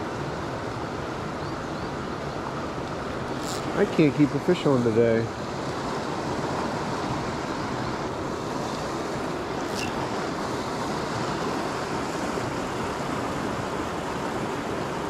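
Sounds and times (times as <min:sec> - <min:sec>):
creek water rushing over rocks: 0:02.0 - 0:15.0.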